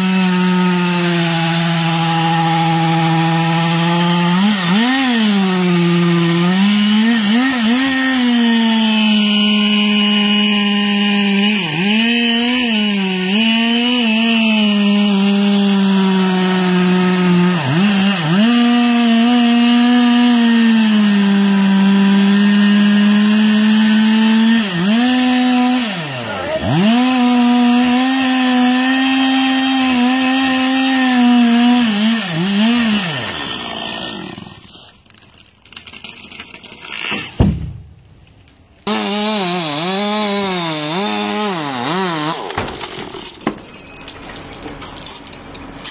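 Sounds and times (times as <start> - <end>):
chainsaw cutting wood: 0.0 - 37.6, 38.8 - 43.8.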